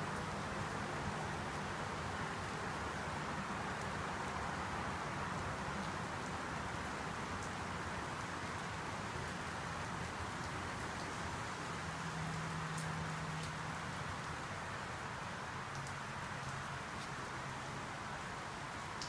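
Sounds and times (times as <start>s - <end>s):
rain falling on pavement: 0.0s - 19.0s.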